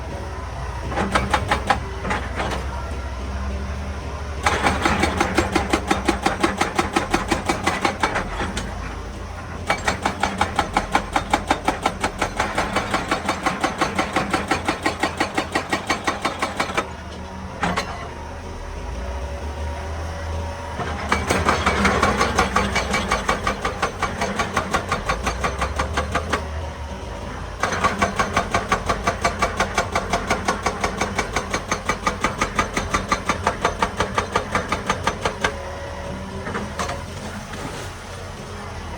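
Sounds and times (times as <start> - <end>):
excavator engine running: 0.0 - 38.9
hydraulic rock breaker hammering: 0.8 - 2.9, 4.4 - 18.1, 20.8 - 26.7, 27.5 - 37.7.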